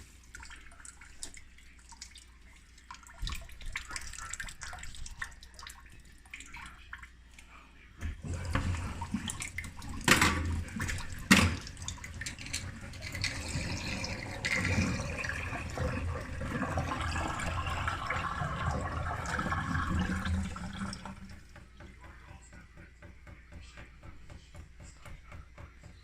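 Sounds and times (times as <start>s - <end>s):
water running into a sink: 0.0s - 7.2s, 8.0s - 22.4s.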